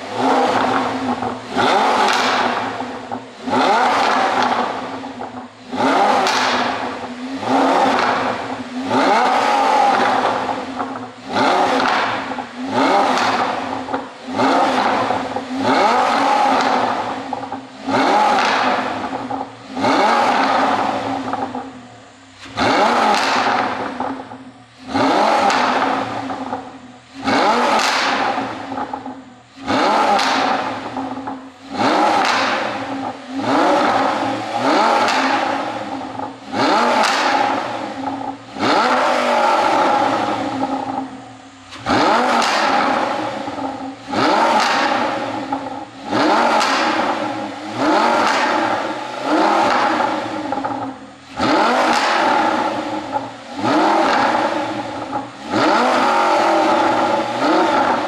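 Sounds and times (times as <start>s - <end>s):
car engine revving: 0.0s - 58.0s
exhaust crackles and pops: 0.0s - 58.0s.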